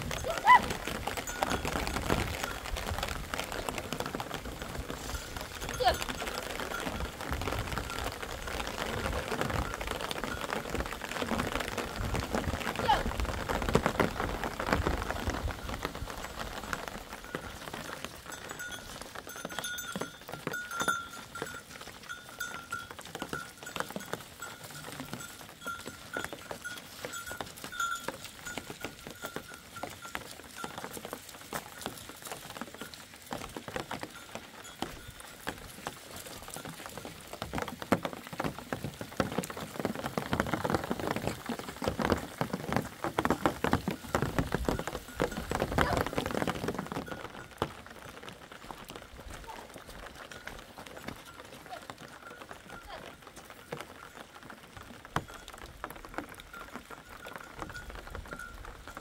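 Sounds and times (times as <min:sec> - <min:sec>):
rain pattering on rocky ground: 0:00.0 - 0:59.0.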